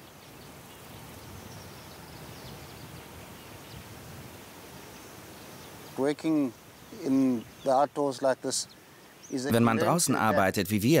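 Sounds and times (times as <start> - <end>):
steady soft hiss: 0.0 - 11.0.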